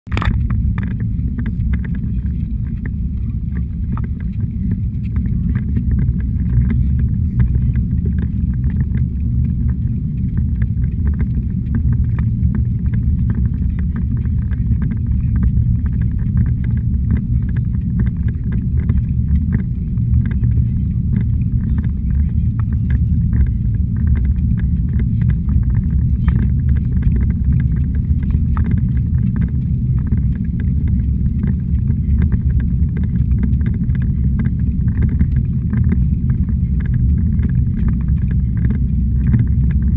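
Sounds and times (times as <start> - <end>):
faint ticks and rattles: 0.1 - 39.9
stroller rolling on pavement: 0.2 - 39.9.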